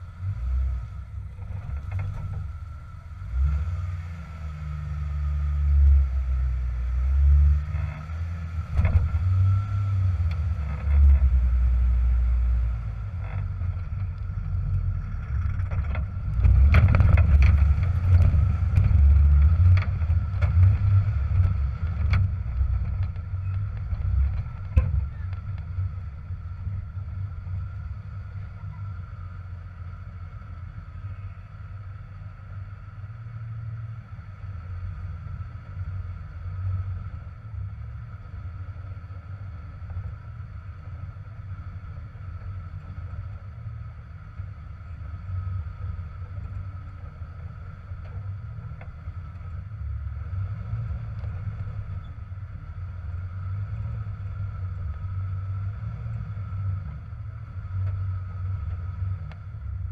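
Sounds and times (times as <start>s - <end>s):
engine rumbling at low speed: 0.0s - 59.9s
faint high whine: 0.0s - 59.9s.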